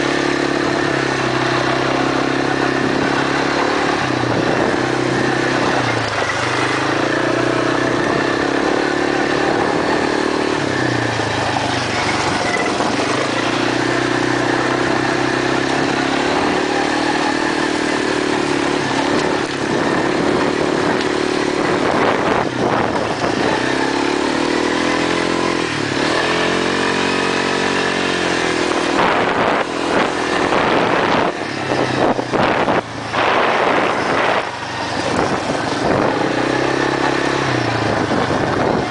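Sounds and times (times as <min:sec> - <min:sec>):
quad engine running: 0:00.0 - 0:38.9.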